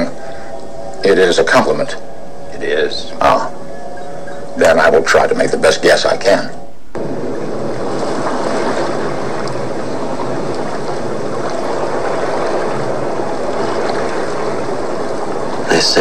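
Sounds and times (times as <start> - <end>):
water churning and rushing: 0.0 - 16.0.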